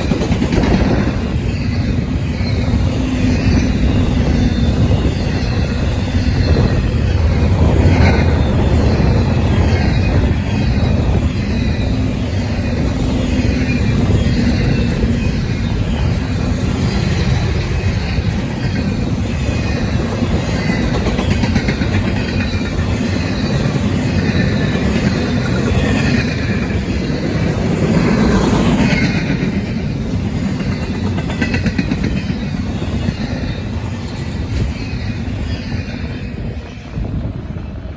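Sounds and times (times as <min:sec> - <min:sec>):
freight train wheels rumbling: 0:00.0 - 0:37.9.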